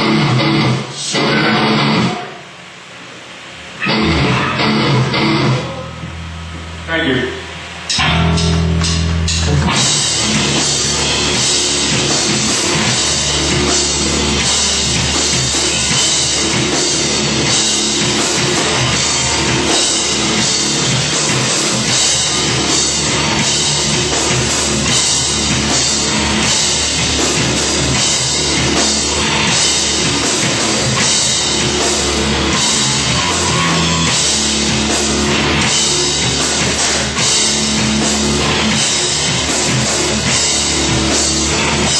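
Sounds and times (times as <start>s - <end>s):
band playing loud rock music: 0.0s - 2.4s, 3.7s - 41.9s
drum kit beating: 3.8s - 41.9s.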